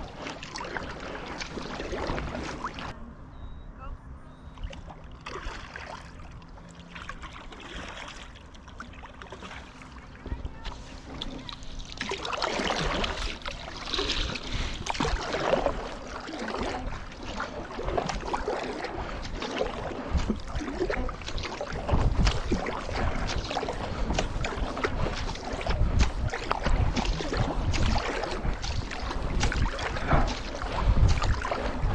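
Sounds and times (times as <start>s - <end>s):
paddle strokes: 0.0s - 3.0s, 4.6s - 31.9s
water splashing and gurgling: 0.0s - 3.0s, 4.5s - 31.9s.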